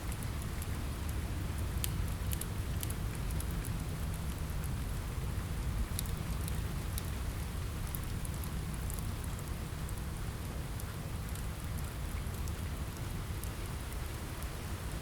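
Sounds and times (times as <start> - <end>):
log fire crackling: 0.0 - 15.0
rain on a window: 0.0 - 15.0.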